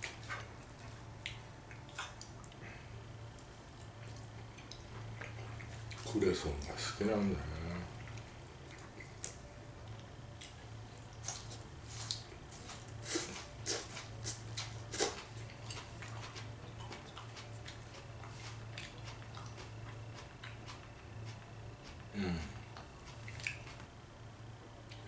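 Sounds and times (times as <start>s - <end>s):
chewing: 0.0s - 6.8s, 7.6s - 23.9s.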